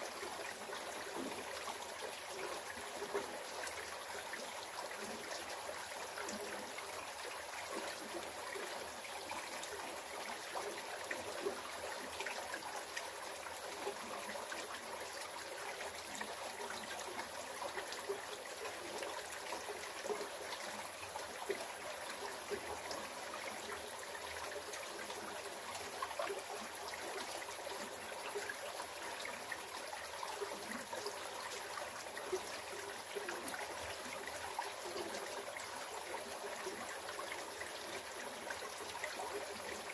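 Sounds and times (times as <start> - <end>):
creek water trickling over rocks: 0.0 - 39.9.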